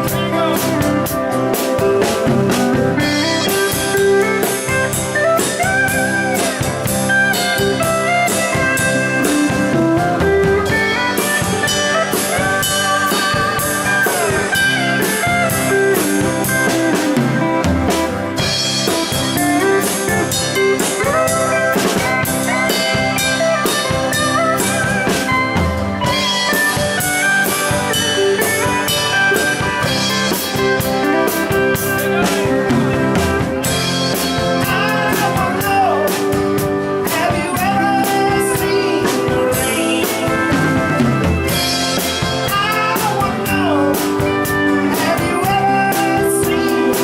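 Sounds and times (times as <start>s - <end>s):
drum kit: 0.0s - 47.0s
lead guitar bending notes: 0.0s - 47.0s
rhythm guitar: 0.0s - 47.0s.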